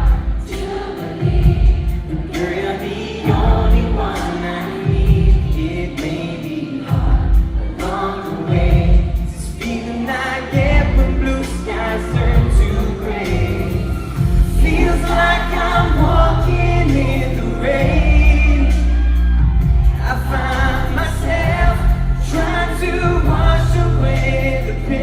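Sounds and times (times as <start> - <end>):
male vocal group singing: 0.0 - 25.0
pop band playing: 0.0 - 25.0
steady hi-hat beat: 0.0 - 25.0.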